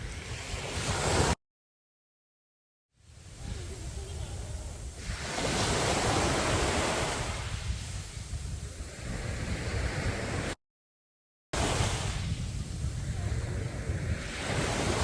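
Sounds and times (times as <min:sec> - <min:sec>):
sea waves breaking on beach: 0:00.0 - 0:01.4, 0:03.1 - 0:10.6, 0:11.6 - 0:15.0
wind rumbling on microphone: 0:00.0 - 0:01.4, 0:03.1 - 0:10.6, 0:11.6 - 0:15.0.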